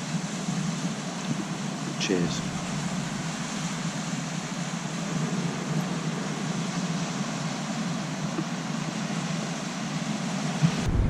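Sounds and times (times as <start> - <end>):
waves washing on pebble beach: 0.0 - 10.9.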